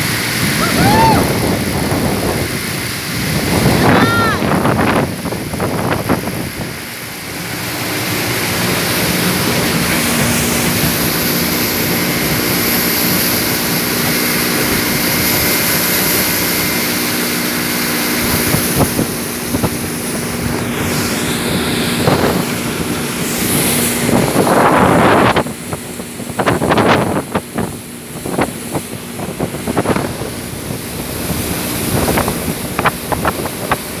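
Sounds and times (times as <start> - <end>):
motorboat engine humming: 0.0 - 34.0
rushing water: 0.0 - 34.0
wind buffeting microphone: 0.0 - 34.0.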